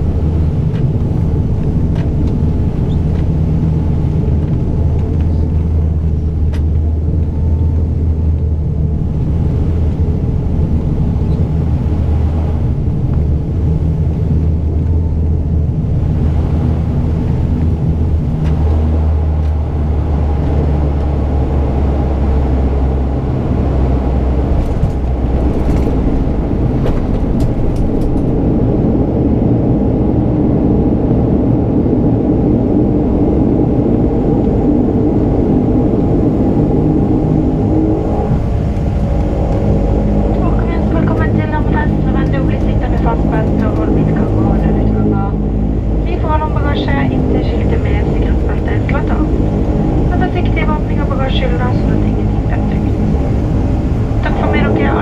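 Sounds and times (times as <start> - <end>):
aircraft rolling on runway: 0.0 - 55.0
turboprop cabin drone: 0.0 - 55.0.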